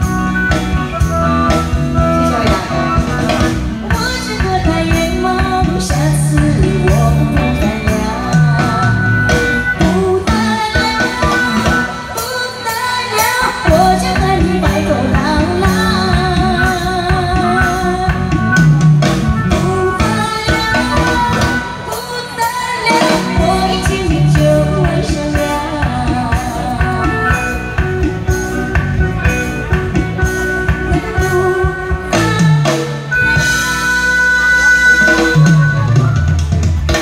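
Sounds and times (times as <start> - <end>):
backing music with guitar and drums: 0.0 - 37.0
woman singing into a microphone: 2.0 - 28.4, 30.8 - 36.1.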